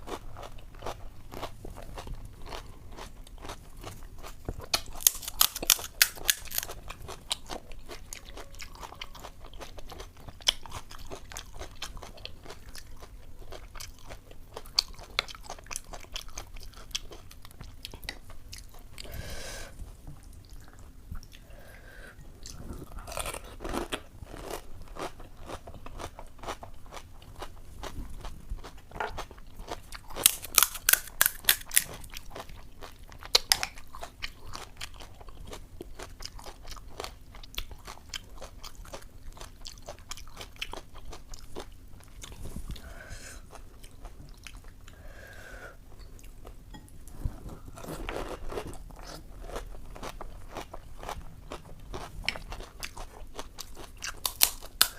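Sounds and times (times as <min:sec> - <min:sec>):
crunching and chewing: 0:00.0 - 0:19.1, 0:20.2 - 0:45.0, 0:47.6 - 0:54.9.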